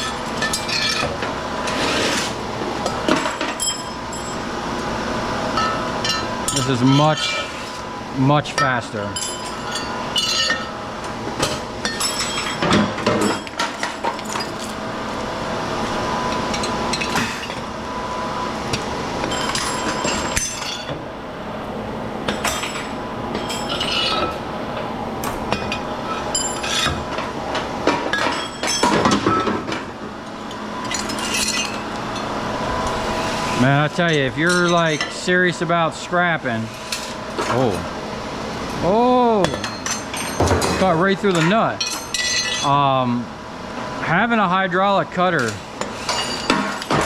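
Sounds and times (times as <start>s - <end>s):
steady hum: 0.0s - 47.0s.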